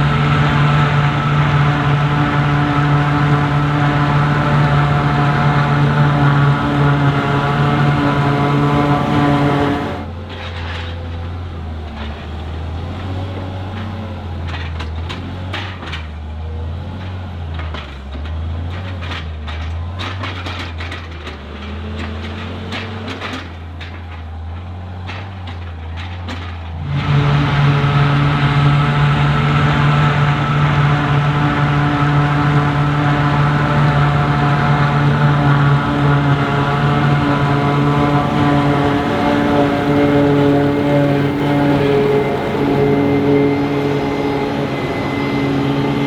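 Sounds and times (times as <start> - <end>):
low engine rumble: 0.0 - 18.2, 25.4 - 46.0
high-revving diesel engine: 0.0 - 46.0.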